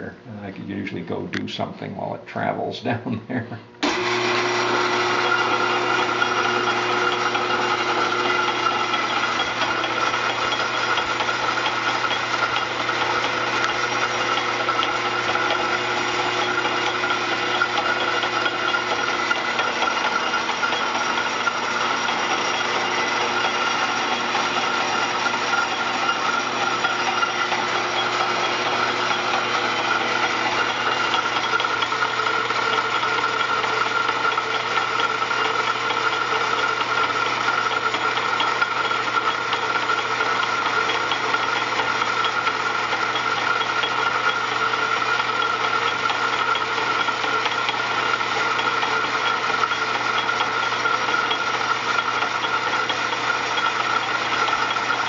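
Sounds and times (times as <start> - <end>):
lathe cutting wood: 3.8 - 55.0.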